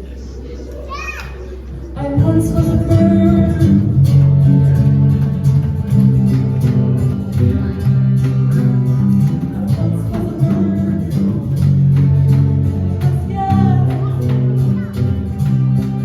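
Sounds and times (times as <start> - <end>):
person singing: 2.0 - 16.0
live band playing: 2.2 - 16.0.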